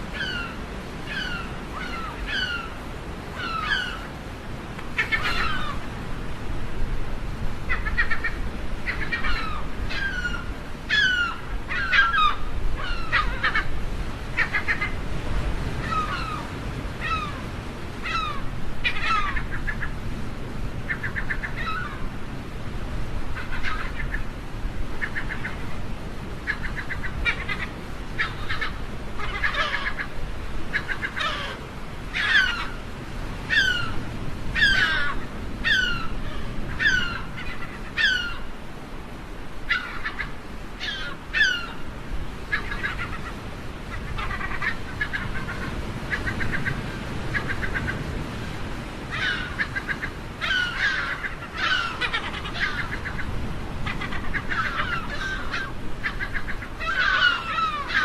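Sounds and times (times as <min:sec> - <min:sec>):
seagulls calling: 0:00.0 - 0:04.2, 0:04.9 - 0:06.0, 0:07.6 - 0:20.0, 0:20.8 - 0:22.1, 0:23.3 - 0:38.6, 0:39.6 - 0:58.0.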